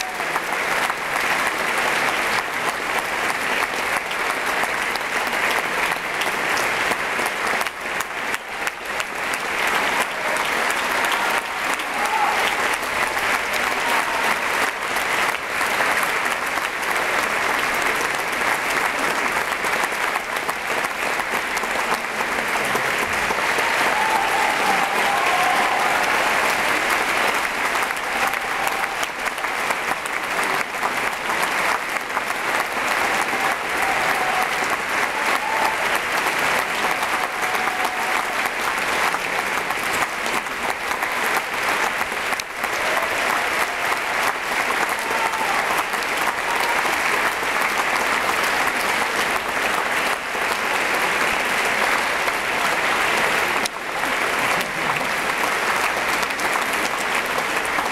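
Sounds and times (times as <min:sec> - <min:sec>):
large audience applauding: 0:00.0 - 0:57.9.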